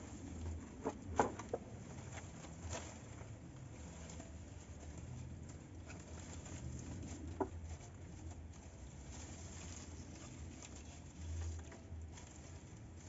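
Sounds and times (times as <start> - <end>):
palm fronds rustling: 0.0 - 13.0.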